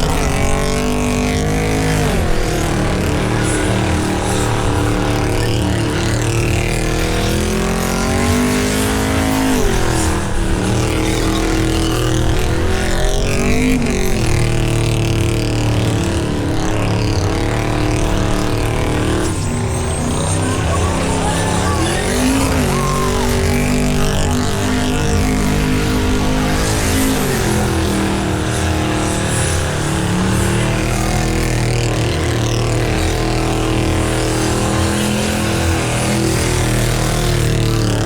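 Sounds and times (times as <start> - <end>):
car engine revving in a burnout: 0.0 - 38.0.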